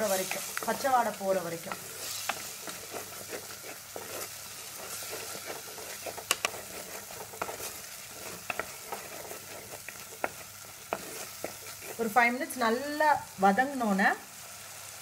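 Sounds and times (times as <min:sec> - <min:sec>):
spatula tapping and scraping pot: 0:00.0 - 0:12.6
masala sizzling in clay pot: 0:00.0 - 0:15.0.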